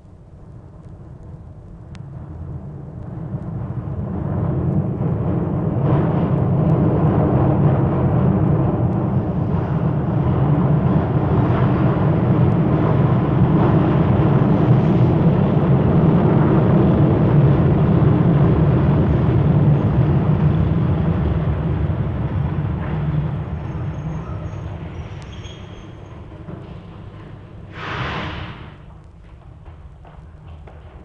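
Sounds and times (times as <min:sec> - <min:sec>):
heavy engine rumble: 0:00.3 - 0:29.6.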